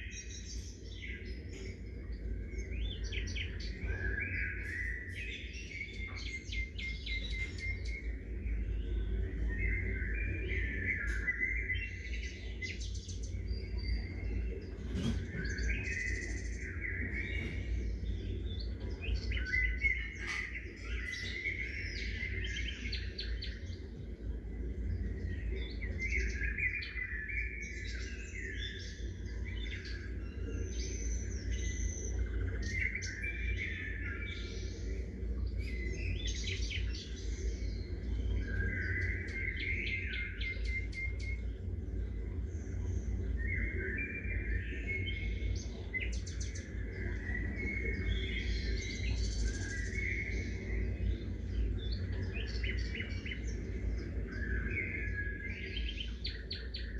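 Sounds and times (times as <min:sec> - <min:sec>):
small birds chirping: 0:00.0 - 0:56.9
steady low rumble: 0:05.5 - 0:11.0, 0:11.8 - 0:26.9, 0:27.8 - 0:56.9.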